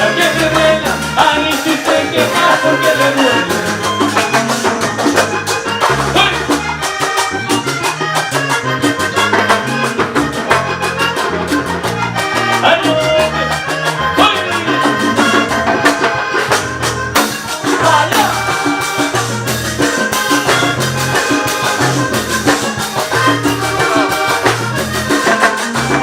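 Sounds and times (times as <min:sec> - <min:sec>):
salsa dance music: 0:00.0 - 0:26.0.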